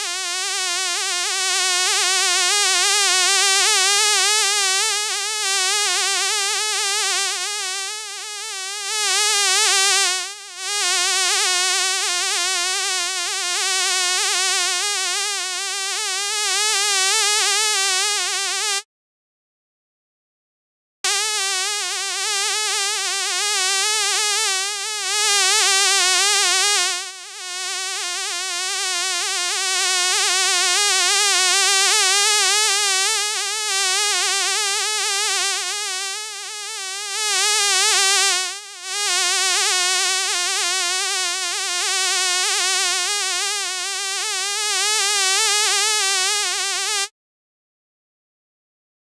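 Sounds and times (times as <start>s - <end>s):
fly buzzing: 3.2s - 18.8s, 21.1s - 47.1s.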